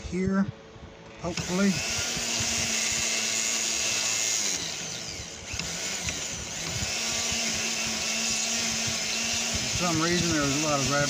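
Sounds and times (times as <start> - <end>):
rotary tool grinding stone: 1.2 - 11.0.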